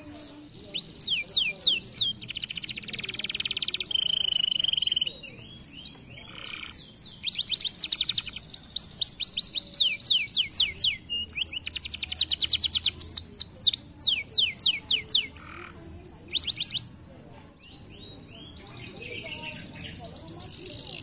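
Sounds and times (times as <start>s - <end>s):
canary singing: 0.0s - 17.0s, 17.6s - 21.0s.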